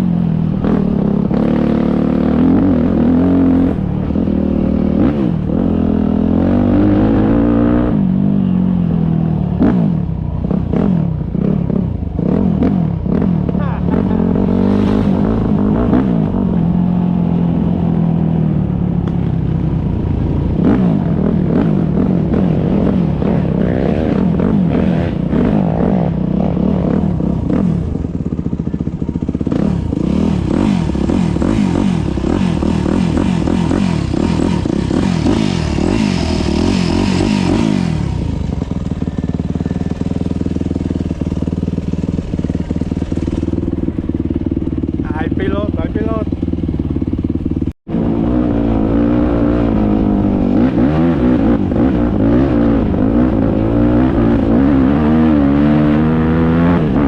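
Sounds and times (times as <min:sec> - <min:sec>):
motorcycle engines revving: 0:00.0 - 0:57.0
steady engine sound: 0:00.0 - 0:57.0.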